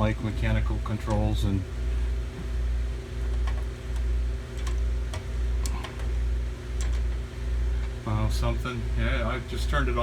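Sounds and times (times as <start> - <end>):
low machinery hum: 0.0 - 10.0.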